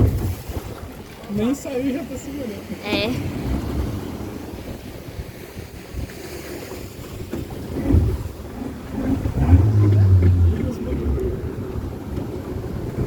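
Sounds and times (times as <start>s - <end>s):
water noise: 0.0s - 13.0s
wind buffeting microphone: 0.0s - 13.0s.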